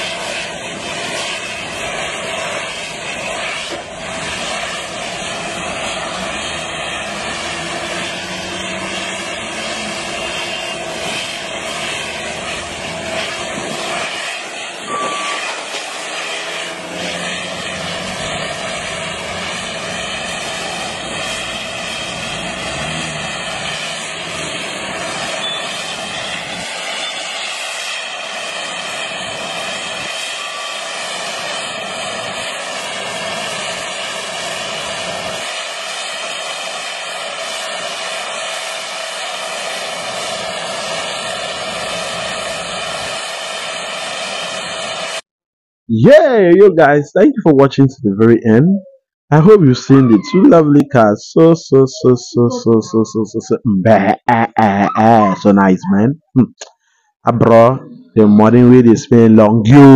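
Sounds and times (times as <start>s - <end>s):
aircraft engine drone: 0.0s - 45.2s, 49.3s - 59.9s
high wavering whine: 0.0s - 45.2s, 48.2s - 56.5s.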